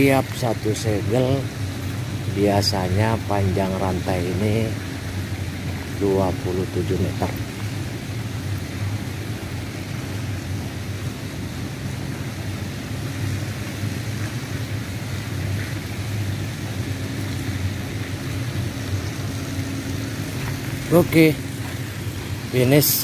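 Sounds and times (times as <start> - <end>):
background hiss: 0.0 - 23.0
ship machinery droning: 0.0 - 23.0.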